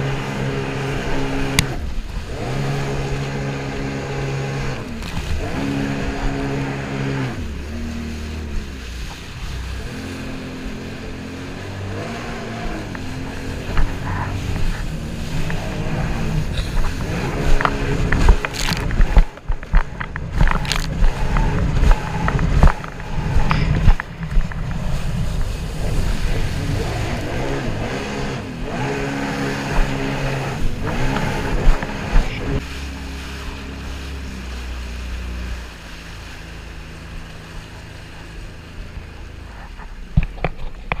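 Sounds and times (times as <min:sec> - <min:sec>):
jet ski engine: 0:00.0 - 0:41.0
water slapping hull: 0:00.0 - 0:41.0.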